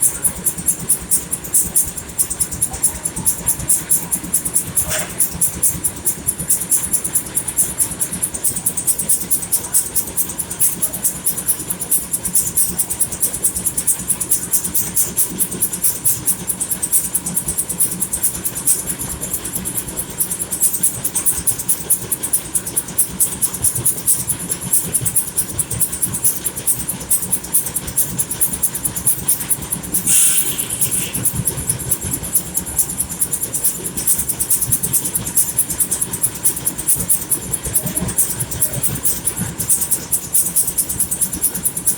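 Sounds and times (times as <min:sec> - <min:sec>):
sawmill machinery beating with hiss: 0:00.0 - 0:41.9.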